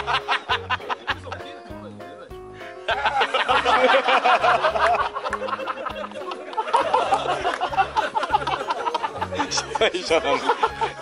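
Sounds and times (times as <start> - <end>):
people laughing: 0.0 - 2.0, 2.6 - 11.0
background music with bass beat: 0.0 - 11.0.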